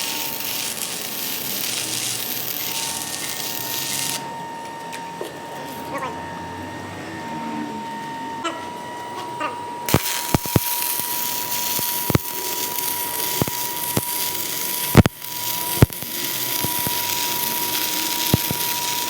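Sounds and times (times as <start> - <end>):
high whine: 0.0 - 19.0.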